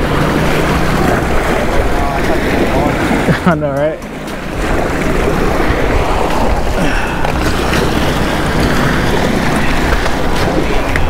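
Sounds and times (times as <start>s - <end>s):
surf breaking against rocks: 0.0s - 11.0s
wind rumbling on microphone: 0.0s - 11.0s.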